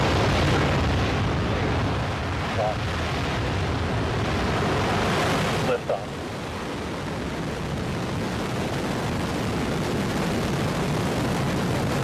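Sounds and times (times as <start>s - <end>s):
rocket exhaust crackling rumble: 0.0s - 12.0s.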